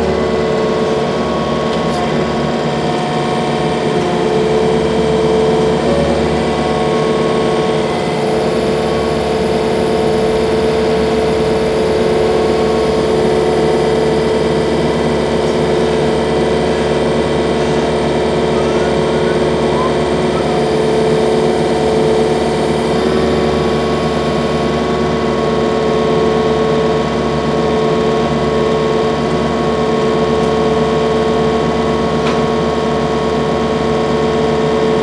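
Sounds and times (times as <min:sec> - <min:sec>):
sawmill engine running: 0:00.0 - 0:35.0.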